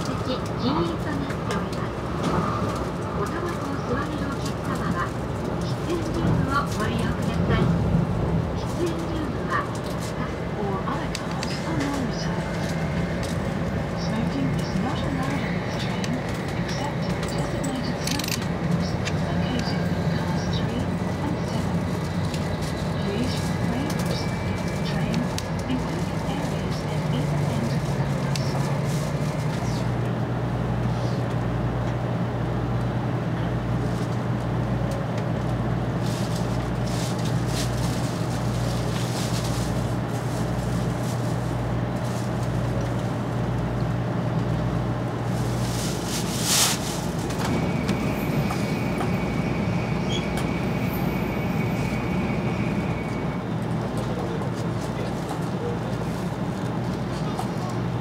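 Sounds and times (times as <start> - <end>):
train cabin hum: 0.0 - 58.0.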